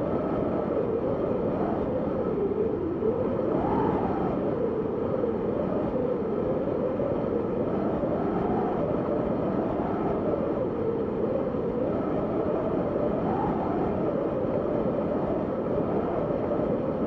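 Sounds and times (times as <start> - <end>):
synthesized wind whistling: 0.0 - 17.0.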